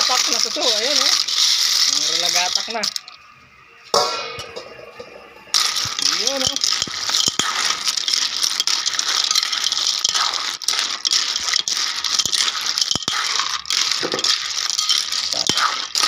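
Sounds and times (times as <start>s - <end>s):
snail shells clinking in metal wok: 0.0s - 3.2s, 5.5s - 16.0s.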